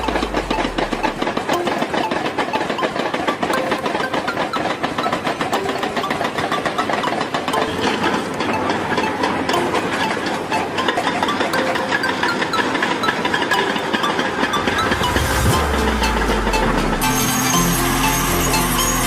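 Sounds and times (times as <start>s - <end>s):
excavator diesel engine clattering: 0.0s - 19.0s.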